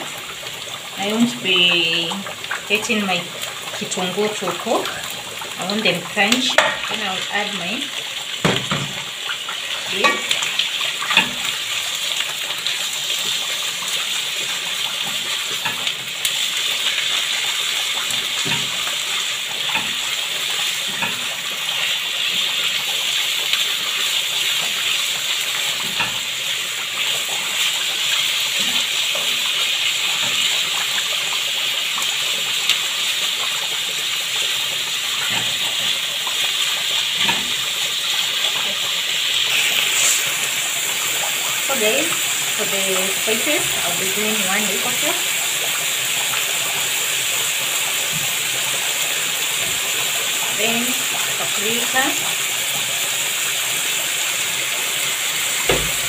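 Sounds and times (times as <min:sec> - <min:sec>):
meat and onions sizzling in oil: 0:00.0 - 0:56.0.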